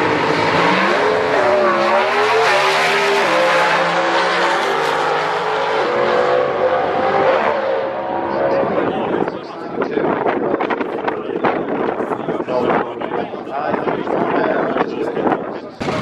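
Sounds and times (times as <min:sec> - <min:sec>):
drag car engine at full throttle: 0:00.0 - 0:16.0.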